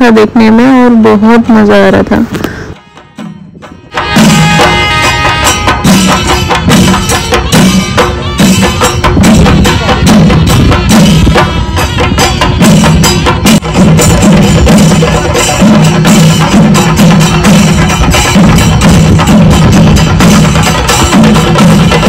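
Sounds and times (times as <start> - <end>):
drum ensemble beaten with sticks: 2.8 - 22.0.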